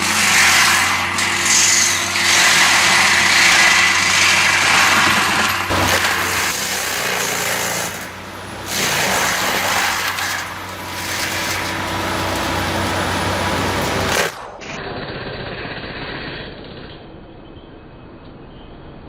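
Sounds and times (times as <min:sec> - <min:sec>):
wood grinding machine: 0:00.0 - 0:17.0.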